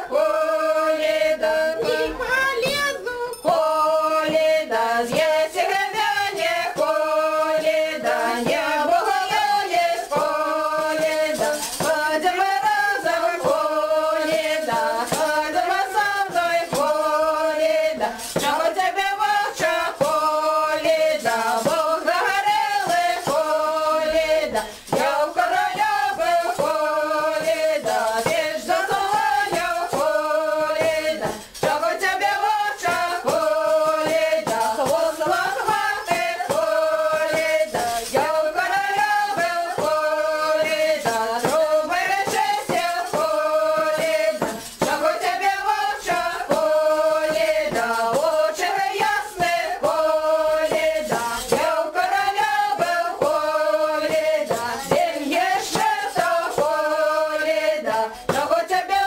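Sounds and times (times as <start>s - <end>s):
group singing folk song: 0.0s - 59.0s.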